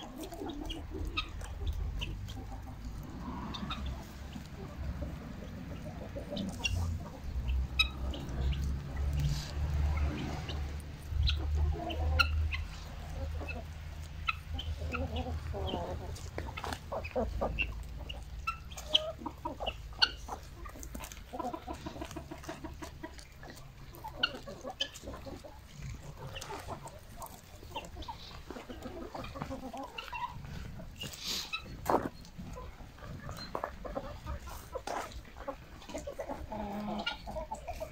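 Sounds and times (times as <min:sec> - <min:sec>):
chickens clucking: 0:00.0 - 0:37.9.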